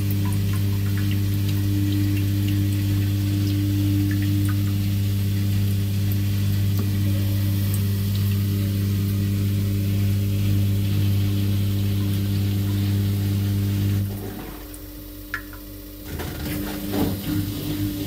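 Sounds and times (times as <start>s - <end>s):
washing machine drain pump hum: 0.0s - 18.0s.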